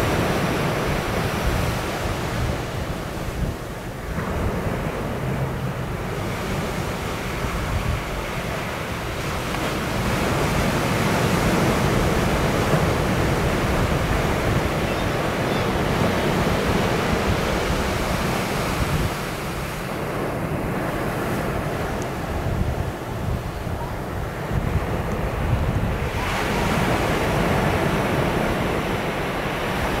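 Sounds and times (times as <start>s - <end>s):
surf: 0.0s - 30.0s
wind buffeting microphone: 0.0s - 30.0s.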